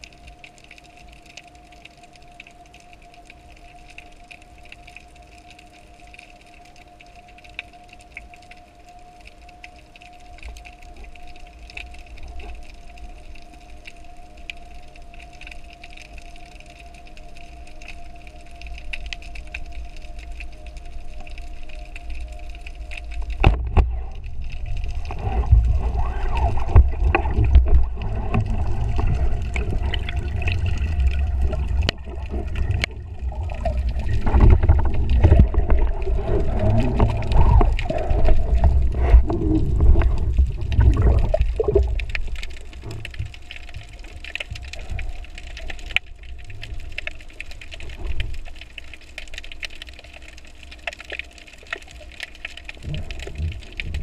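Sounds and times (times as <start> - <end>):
underwater rushing and gurgling: 0.0 - 54.0.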